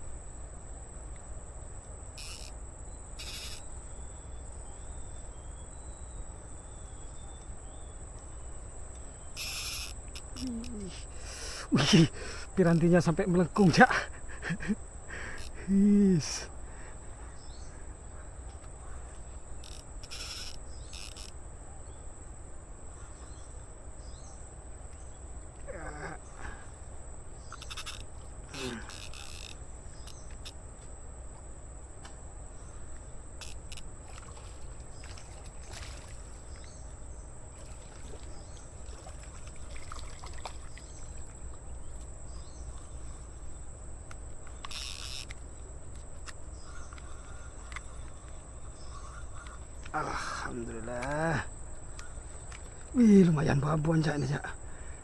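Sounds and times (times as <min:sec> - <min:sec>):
high-pitched insect drone: 0:02.0 - 0:22.0, 0:22.8 - 0:30.7, 0:32.6 - 0:55.0.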